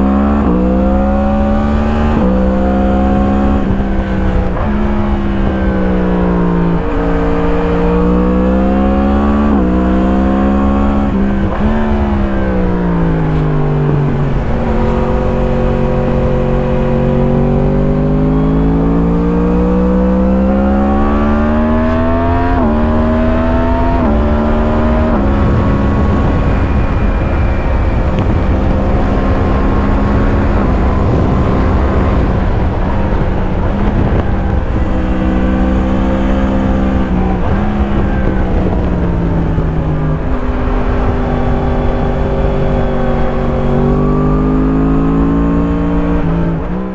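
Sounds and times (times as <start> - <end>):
motorcycle engine revving: 0.0 - 46.9
rush of noise: 0.0 - 46.9.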